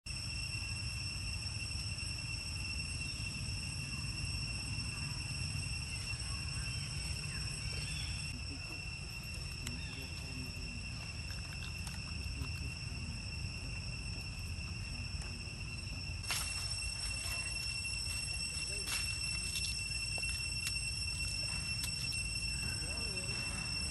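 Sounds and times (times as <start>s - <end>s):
high-pitched insect drone: 0.1s - 23.9s.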